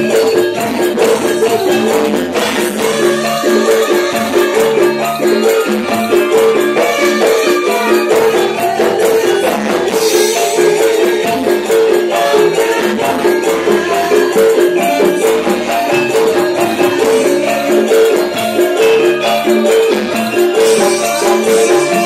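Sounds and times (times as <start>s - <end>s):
women singing into microphones: 0.0s - 18.4s, 19.2s - 22.0s
gamelan music through loudspeakers: 0.0s - 22.0s
high shimmering percussion: 0.0s - 22.0s
metallophones playing pitched notes: 0.0s - 22.0s.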